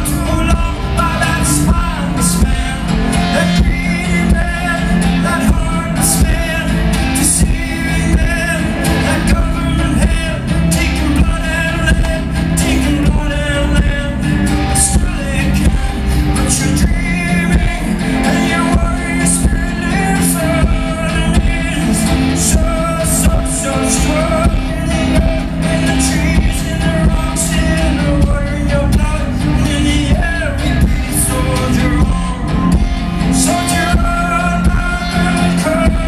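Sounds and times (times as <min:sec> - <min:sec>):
live band playing: 0:00.0 - 0:36.0
person singing: 0:00.0 - 0:36.0.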